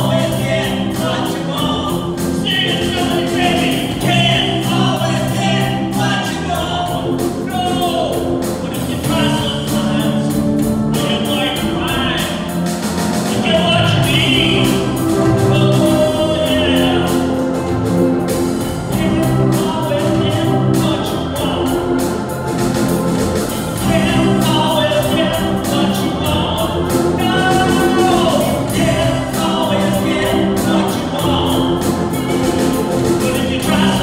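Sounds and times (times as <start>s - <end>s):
church choir singing: 0.0s - 34.0s
live band accompaniment: 0.0s - 34.0s.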